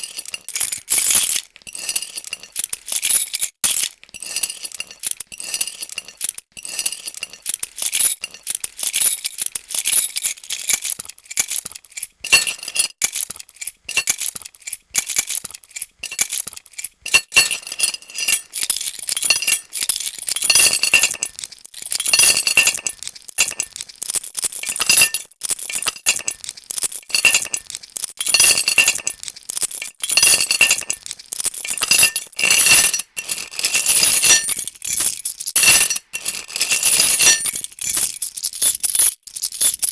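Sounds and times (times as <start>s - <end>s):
metal keys jangling: 0.0s - 39.9s.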